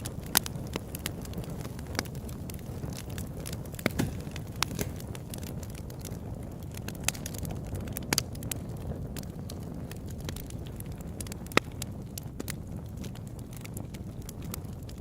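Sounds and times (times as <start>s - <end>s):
campfire flames rumbling: 0.0s - 15.0s
wood crackling and popping: 0.0s - 15.0s.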